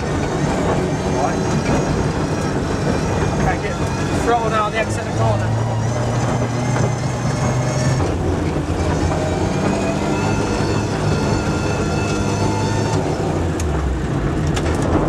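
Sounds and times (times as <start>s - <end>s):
car engine running under throttle: 0.0s - 15.0s
tyres rumbling on gravel: 0.0s - 15.0s.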